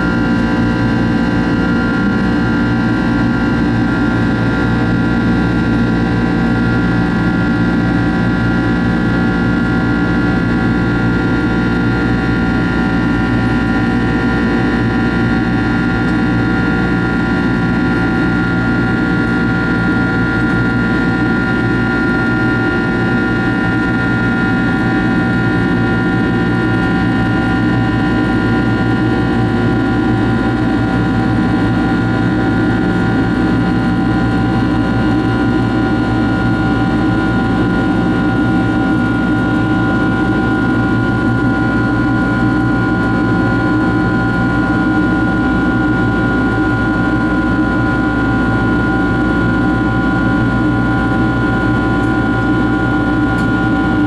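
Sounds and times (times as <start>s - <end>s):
high engine whine: 0.0s - 54.0s
jet engine and airflow rumble: 0.0s - 54.0s.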